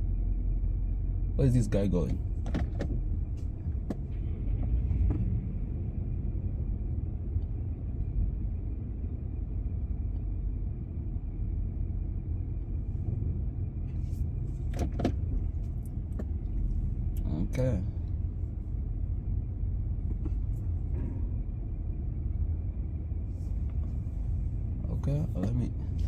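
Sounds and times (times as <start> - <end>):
car engine and tyres humming: 0.0 - 26.0.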